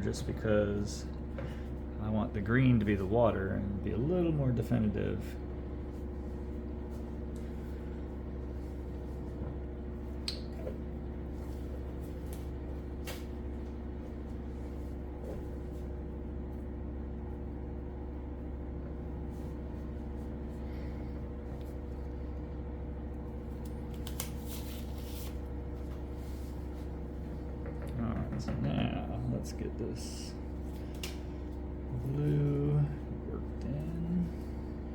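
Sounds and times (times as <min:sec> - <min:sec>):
low hum: 0:00.0 - 0:34.9.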